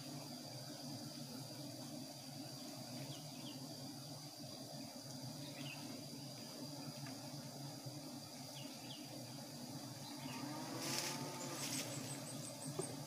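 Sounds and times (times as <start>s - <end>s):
low hum of bee swarm: 0.0s - 13.0s
thin insect drone: 0.0s - 13.0s.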